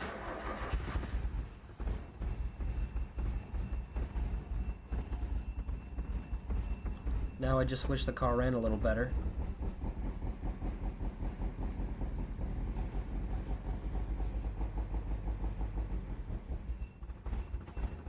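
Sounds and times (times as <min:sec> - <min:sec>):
car engine idling roughly: 0:00.0 - 0:18.0.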